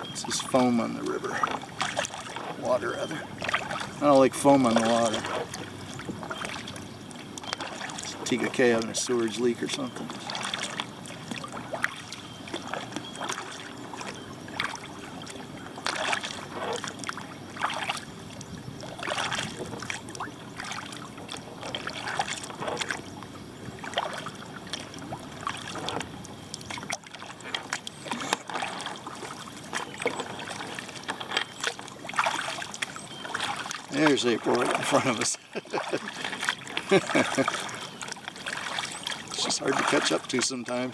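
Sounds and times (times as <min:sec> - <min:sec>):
paddle splashing in water: 0:00.0 - 0:40.9.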